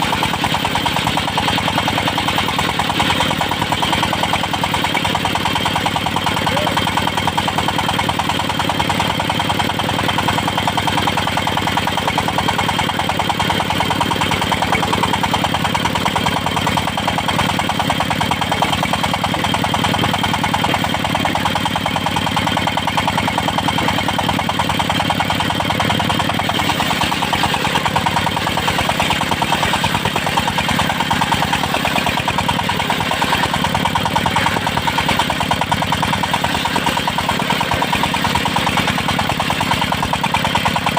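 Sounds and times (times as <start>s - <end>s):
engine pulsing: 0.0s - 40.9s.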